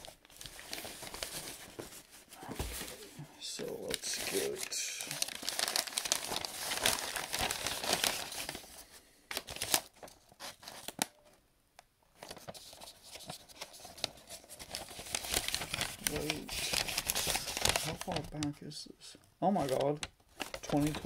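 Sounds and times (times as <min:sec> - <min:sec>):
newspaper crumpling and tearing: 0:00.0 - 0:11.4, 0:12.1 - 0:18.6, 0:19.5 - 0:21.0.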